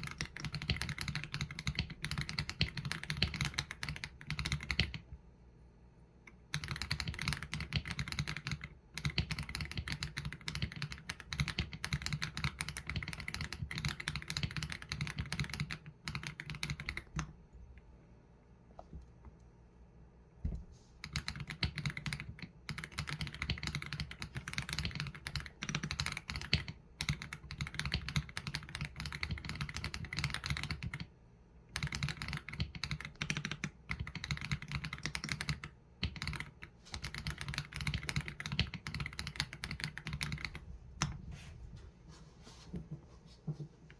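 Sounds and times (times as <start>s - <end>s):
typing on a mechanical keyboard: 0.0s - 5.1s, 6.3s - 17.4s, 21.0s - 31.1s, 31.7s - 41.2s.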